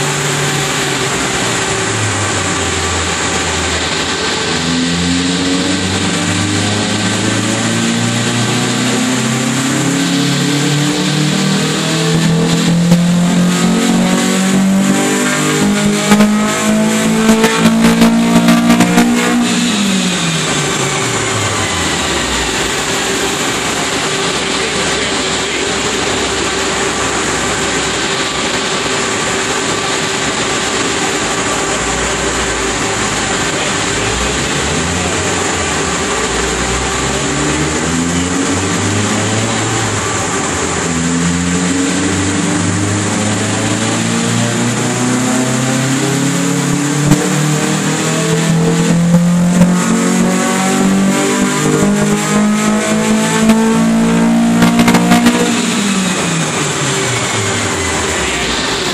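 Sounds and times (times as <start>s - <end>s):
car engine revving: 0.0s - 58.9s
dyno rollers spinning down: 0.0s - 58.9s
engine crackles: 0.0s - 58.9s.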